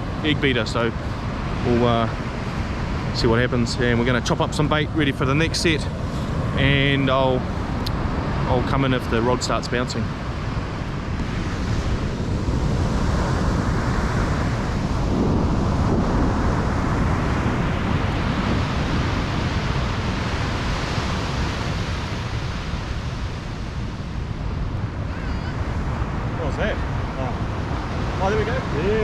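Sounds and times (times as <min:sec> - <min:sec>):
surf breaking on beach: 0:00.0 - 0:29.0
wind on microphone: 0:00.0 - 0:29.0.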